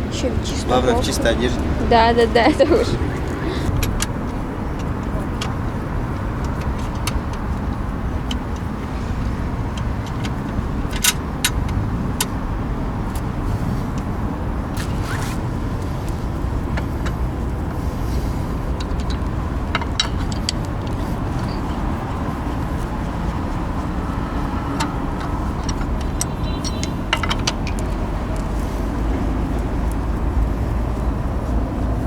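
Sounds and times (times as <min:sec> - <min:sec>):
low vehicle rumble: 0:00.0 - 0:32.0.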